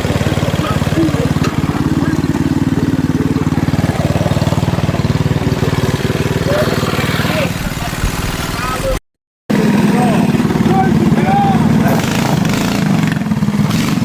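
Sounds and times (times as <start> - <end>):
small engine running steadily: 0.0 - 14.0.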